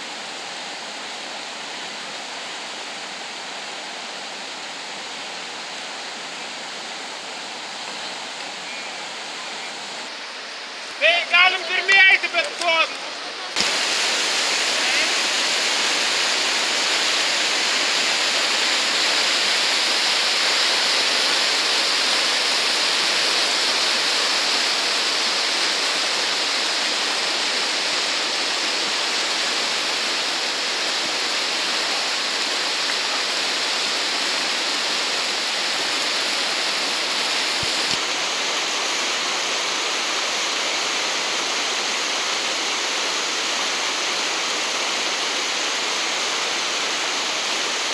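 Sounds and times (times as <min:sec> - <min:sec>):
rapids rushing over boulders: 0:00.0 - 0:47.9.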